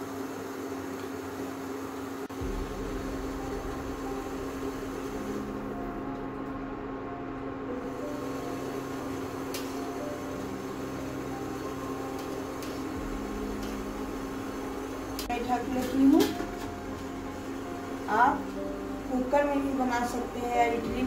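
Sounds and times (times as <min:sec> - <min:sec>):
induction cooktop humming: 0:00.0 - 0:21.0.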